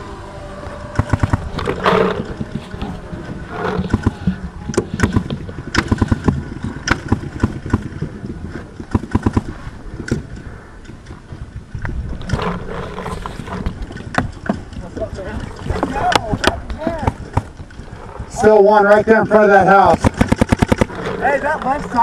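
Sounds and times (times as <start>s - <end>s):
gear scraping and rustling: 0.0s - 22.0s.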